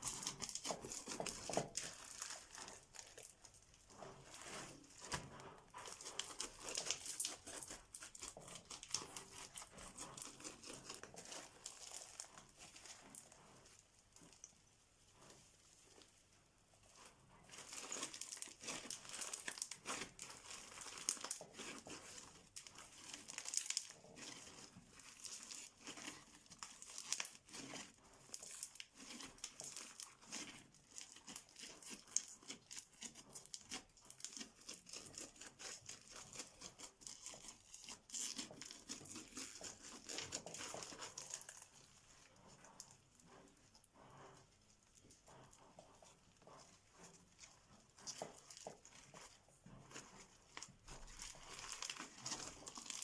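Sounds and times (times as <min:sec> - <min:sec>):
slime crackling by hand: 0:00.0 - 0:16.2, 0:16.8 - 0:43.8, 0:44.6 - 0:53.0.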